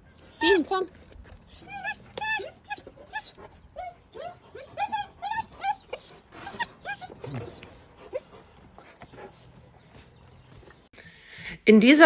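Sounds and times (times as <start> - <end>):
puppy whining and yelping: 0.0 - 10.8.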